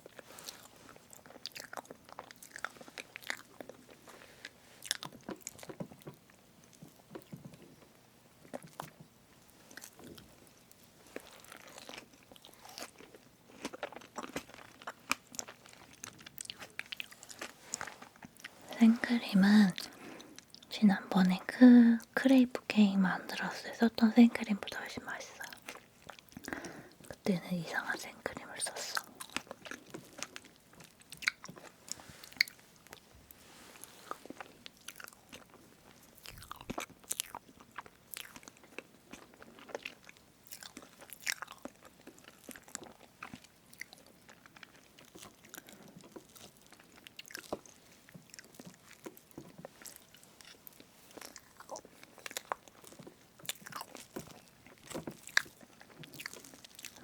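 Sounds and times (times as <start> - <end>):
chewing and wet mouth sounds: 0.0 - 9.0, 9.6 - 57.0.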